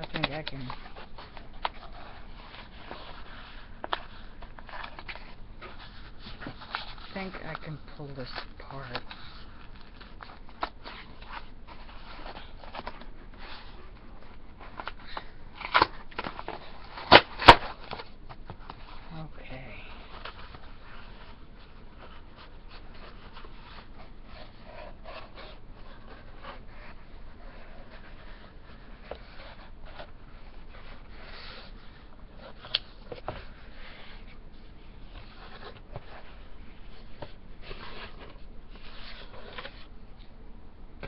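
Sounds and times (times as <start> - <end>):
packaging rustling and crinkling: 0.0 - 40.3.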